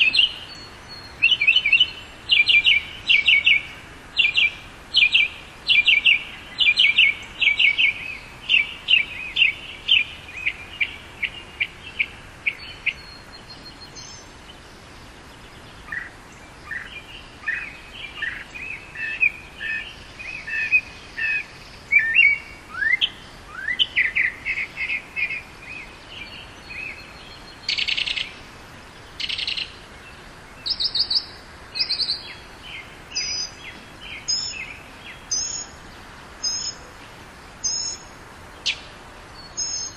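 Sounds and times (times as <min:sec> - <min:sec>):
mockingbird singing: 0:00.0 - 0:14.3, 0:15.9 - 0:28.4, 0:29.2 - 0:29.8, 0:30.6 - 0:35.8, 0:36.4 - 0:36.9, 0:37.6 - 0:39.9.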